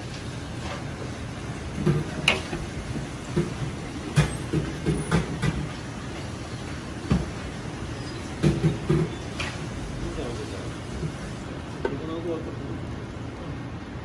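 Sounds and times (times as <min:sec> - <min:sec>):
kitchen rumble: 0:00.0 - 0:12.1.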